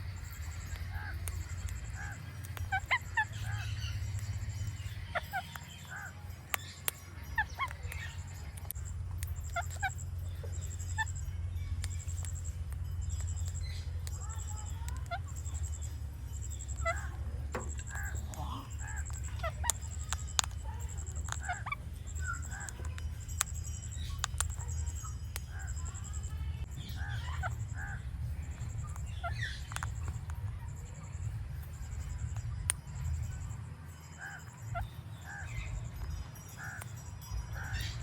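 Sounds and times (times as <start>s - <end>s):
parrot clicks and chirps: 0.0s - 38.0s
steady low hum: 0.0s - 38.0s.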